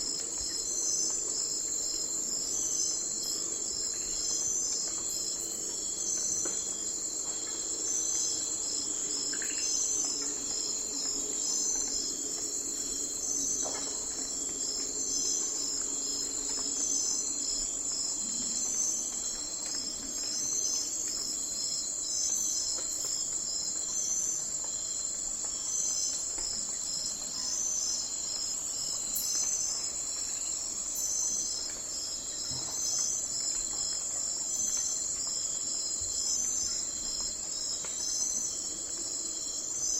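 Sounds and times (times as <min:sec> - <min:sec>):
insect chirping in pulses: 0:00.0 - 0:39.9
insects trilling: 0:00.0 - 0:39.9.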